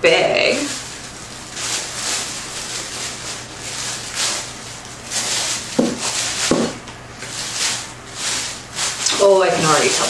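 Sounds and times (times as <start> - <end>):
plastic bag rustling: 0.1 - 10.0.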